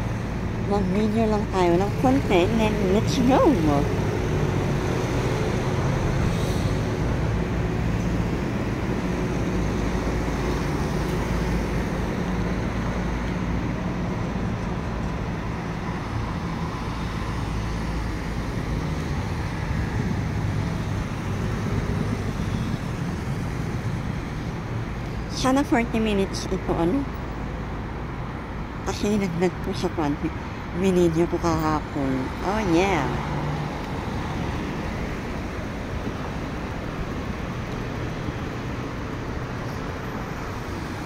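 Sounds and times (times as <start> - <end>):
vehicles driving past: 0.0 - 41.0.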